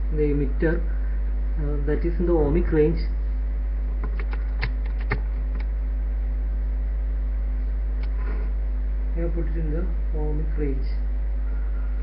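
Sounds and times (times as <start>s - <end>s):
low mains hum: 0.0s - 12.0s.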